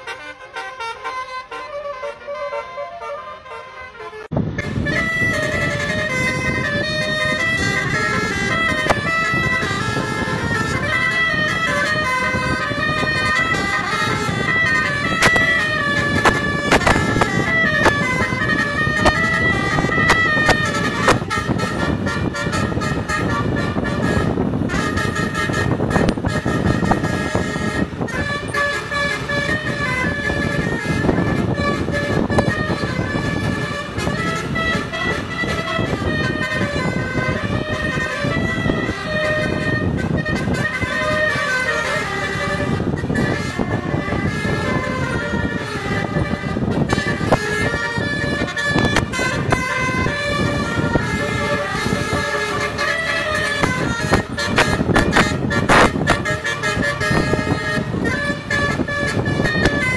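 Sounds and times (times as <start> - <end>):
multi-tone air horn melody: 0.0 - 59.9
rough rumbling noise: 3.4 - 59.9.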